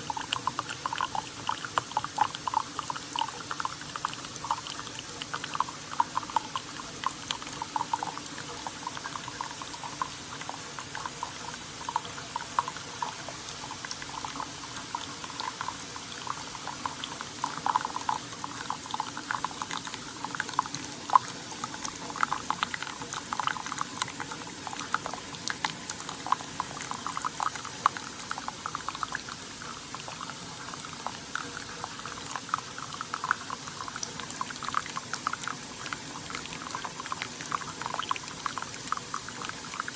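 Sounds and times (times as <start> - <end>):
coffee streaming into a cup: 0.0 - 39.9.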